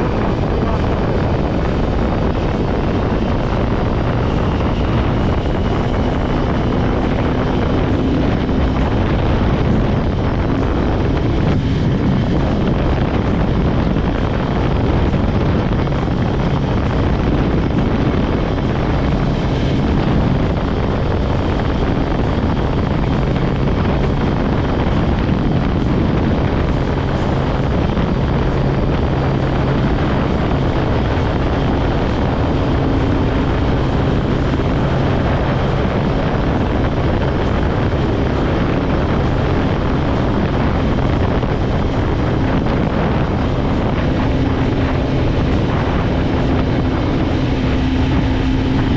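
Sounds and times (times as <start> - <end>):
motorcycle engine cruising: 0.0 - 48.9
wind noise on microphone: 0.0 - 48.9.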